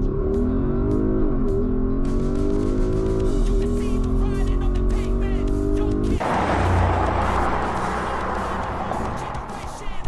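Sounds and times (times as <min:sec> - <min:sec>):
background music: 0:00.0 - 0:10.0
car engine and road noise: 0:00.0 - 0:10.0.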